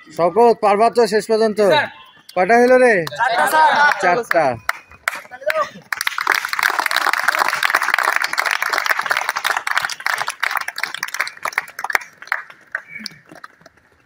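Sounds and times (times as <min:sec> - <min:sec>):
people clapping: 0:02.3 - 0:14.0.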